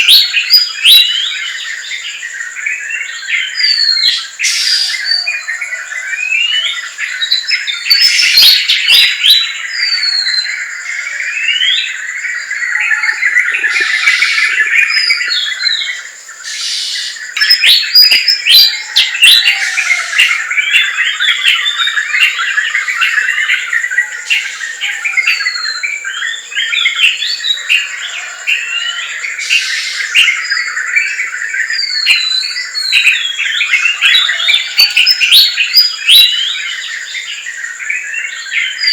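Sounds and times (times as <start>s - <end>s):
birds chirping and whistling: 0.0s - 2.0s, 3.4s - 5.6s, 6.2s - 37.4s.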